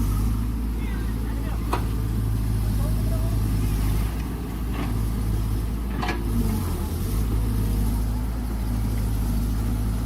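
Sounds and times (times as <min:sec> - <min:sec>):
excavator diesel engine droning: 0:00.0 - 0:10.0.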